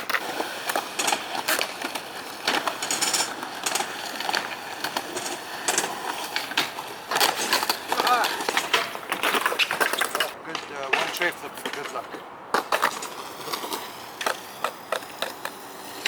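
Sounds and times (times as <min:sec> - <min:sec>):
skateboard clacking on ground: 0:00.0 - 0:16.0
skateboard wheels rolling: 0:00.0 - 0:16.0.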